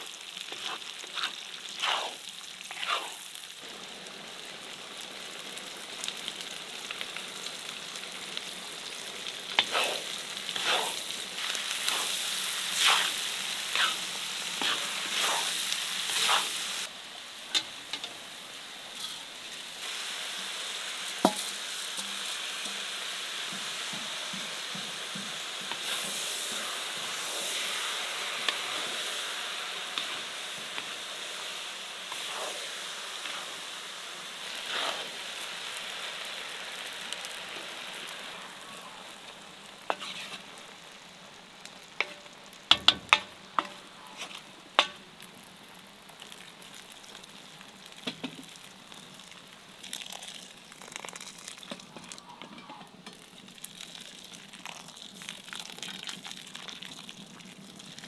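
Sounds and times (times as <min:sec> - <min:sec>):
rice and meat sizzling in pot: 0:00.0 - 0:58.0.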